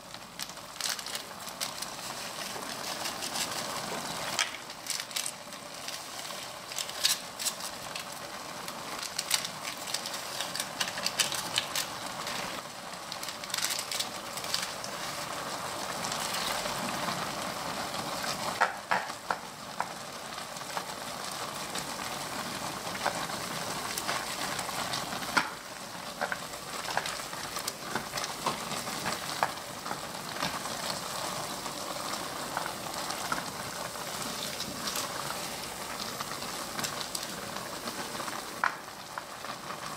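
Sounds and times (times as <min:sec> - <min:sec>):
noodles sizzling in a pan: 0:00.0 - 0:39.9.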